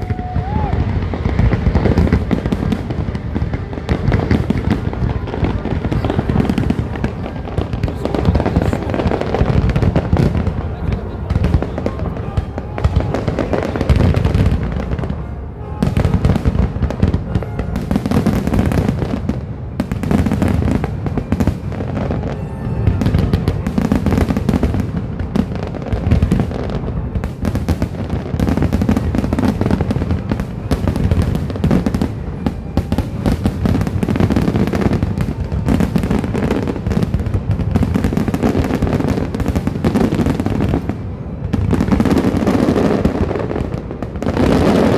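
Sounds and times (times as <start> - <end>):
fireworks bursts and booms: 0.0 - 44.9.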